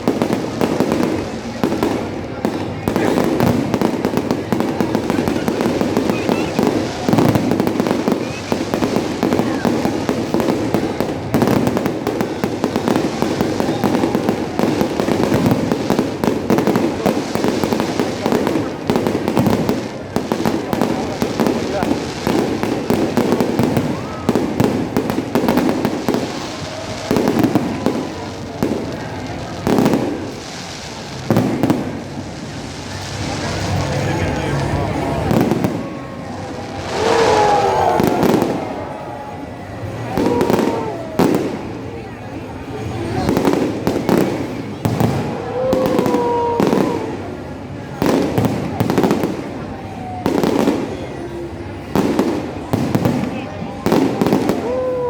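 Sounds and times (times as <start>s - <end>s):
fireworks crackling pops: 0.0s - 55.0s.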